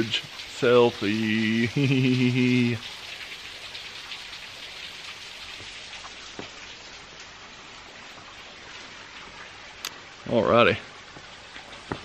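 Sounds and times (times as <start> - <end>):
waterfall splashing onto rocks: 0.0 - 12.0.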